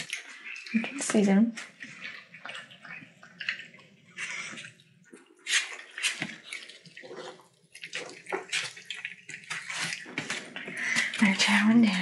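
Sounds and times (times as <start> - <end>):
puppies eating and slurping: 0.0 - 12.0.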